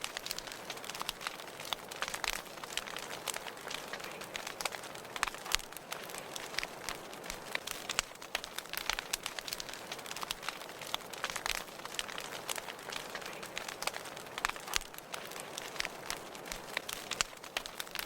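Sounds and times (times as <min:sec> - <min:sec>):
fire crackles and pops: 0:00.0 - 0:18.0
wood fire hissing: 0:00.0 - 0:18.0.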